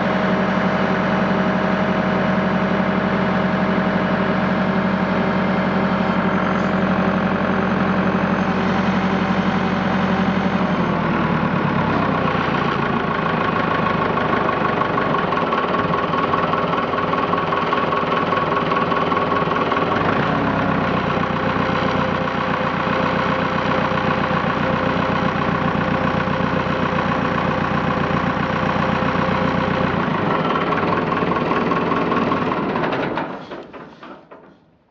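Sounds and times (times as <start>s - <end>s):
tractor diesel engine running: 0.0s - 34.8s.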